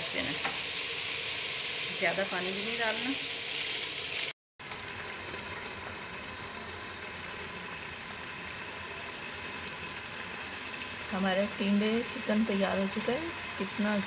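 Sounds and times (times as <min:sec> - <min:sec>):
water sizzling in hot pan: 0:00.0 - 0:14.0.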